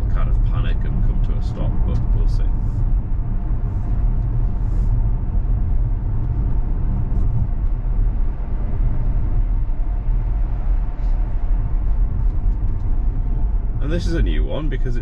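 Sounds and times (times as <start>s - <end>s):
tyre and road noise in car: 0.0s - 15.0s.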